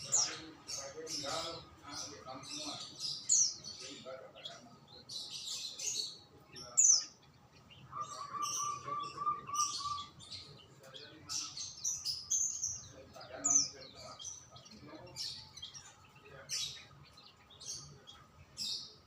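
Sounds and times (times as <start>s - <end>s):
lower repeated bird notes: 0.0s - 19.0s
songbirds chirping and calling: 0.0s - 19.0s.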